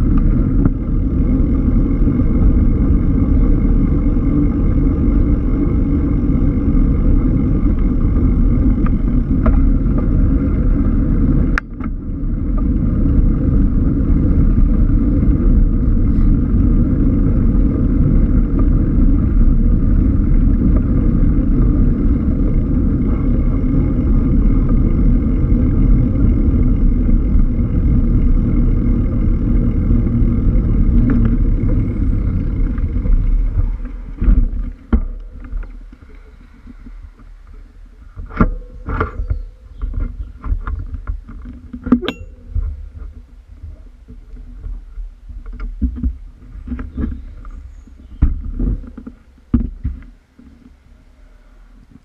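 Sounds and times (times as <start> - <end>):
wind and road rumble: 0.0 - 52.0.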